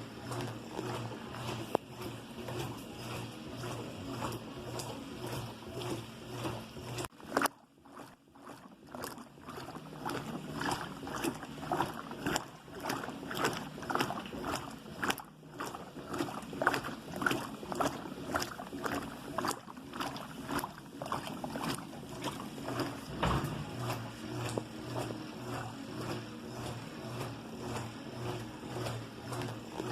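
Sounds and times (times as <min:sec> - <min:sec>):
laundry sloshing in washing machine: 0:00.0 - 0:29.9.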